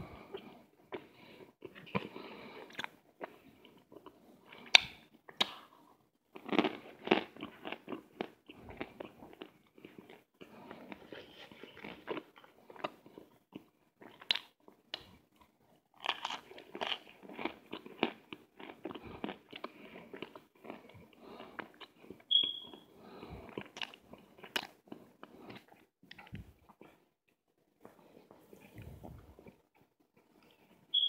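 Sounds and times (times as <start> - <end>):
mouth crunching and chewing: 0.0 - 31.0.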